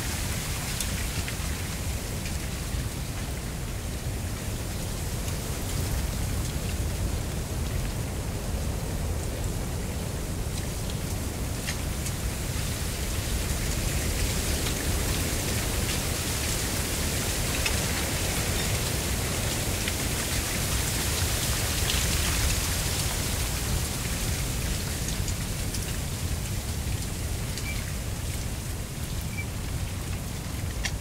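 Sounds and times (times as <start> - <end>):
wind rustling dry reeds: 0.0 - 31.0.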